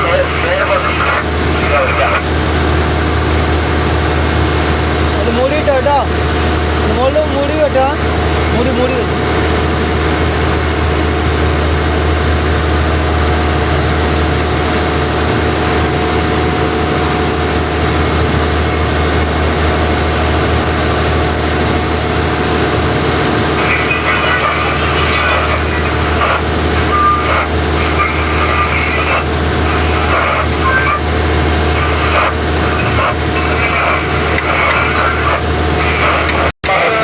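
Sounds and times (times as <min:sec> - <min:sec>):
boat engine droning: 0:00.0 - 0:37.0
voices: 0:00.0 - 0:37.0.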